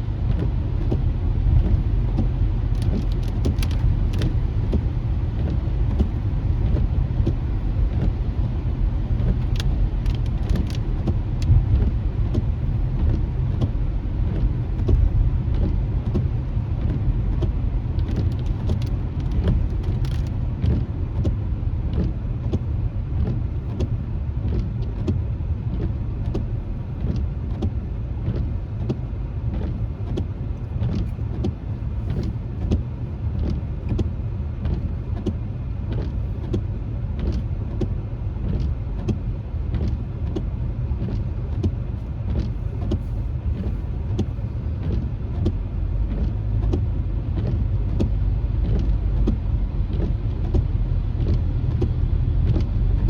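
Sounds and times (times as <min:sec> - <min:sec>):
raindrops tapping on windshield: 0:00.0 - 0:53.0
road rumble inside a car: 0:00.0 - 0:53.0.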